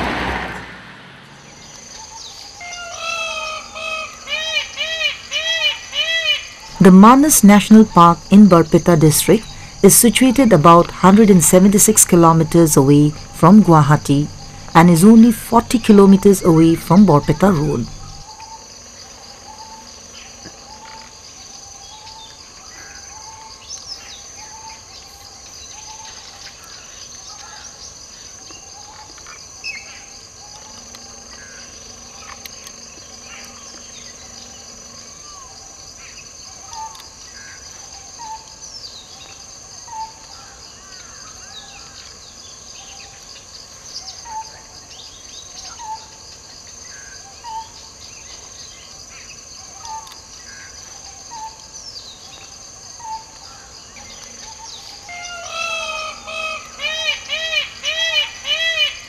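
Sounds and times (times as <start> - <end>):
high-pitched insect chorus: 1.1 - 59.0.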